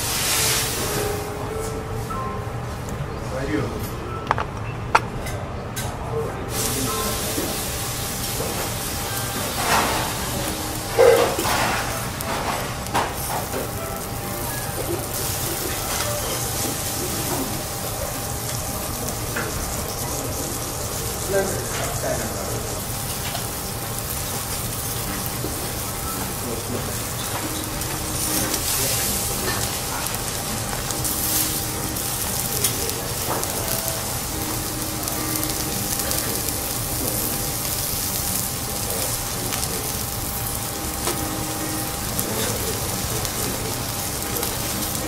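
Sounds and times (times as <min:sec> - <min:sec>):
sizzling on a hot griddle: 0:00.0 - 0:02.2, 0:06.5 - 0:45.0.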